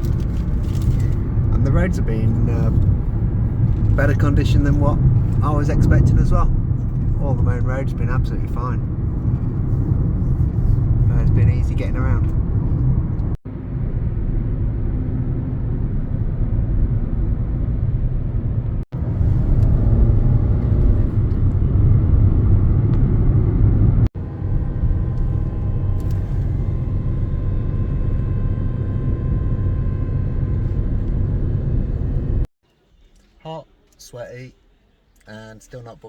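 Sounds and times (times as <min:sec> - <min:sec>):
car engine and tyre rumble: 0:00.0 - 0:32.5.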